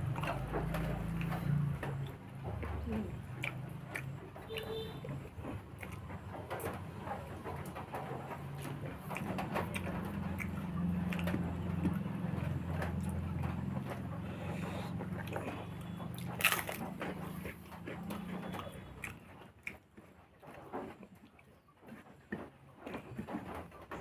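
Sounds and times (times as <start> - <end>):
loud crunch: 0.0 - 23.6
person chewing food: 0.0 - 24.0.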